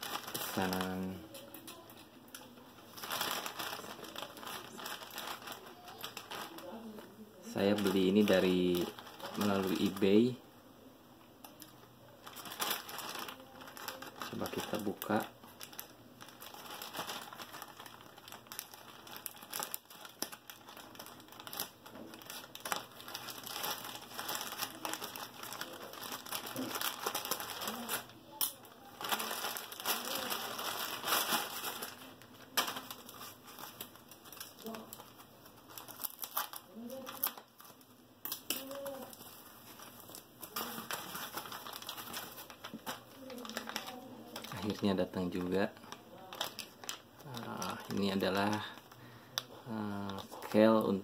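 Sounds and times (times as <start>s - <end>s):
plastic bag crinkling: 0.0s - 10.4s, 11.4s - 51.0s.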